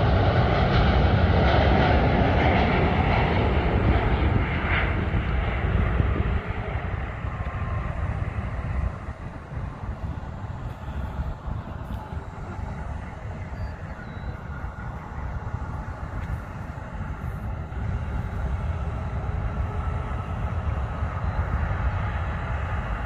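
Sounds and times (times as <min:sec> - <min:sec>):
distant jet engines rumbling: 0:00.0 - 0:23.0.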